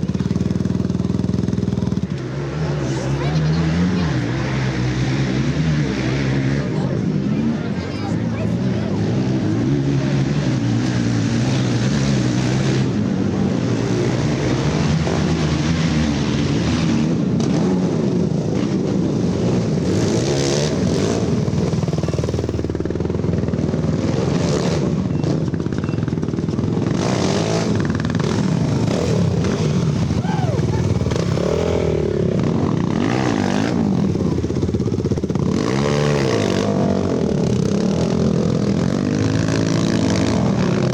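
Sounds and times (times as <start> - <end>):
racing atv engines revving: 0.0 - 40.9.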